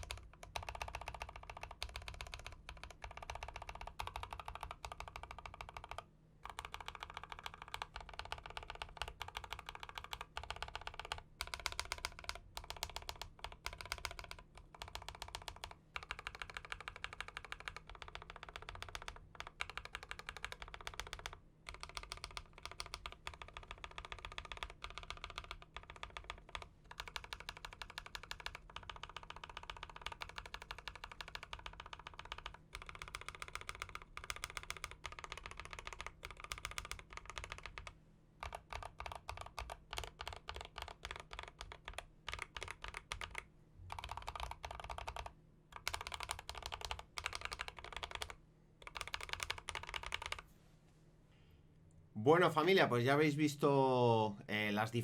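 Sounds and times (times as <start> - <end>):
fast typing on mechanical keyboard: 0.0 - 50.4.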